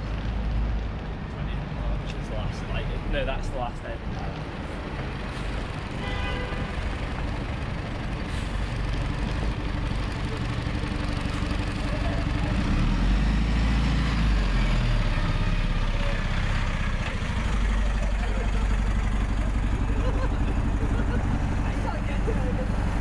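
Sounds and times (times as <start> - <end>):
street noise: 0.0 - 23.0
truck engine rumbling: 0.0 - 23.0.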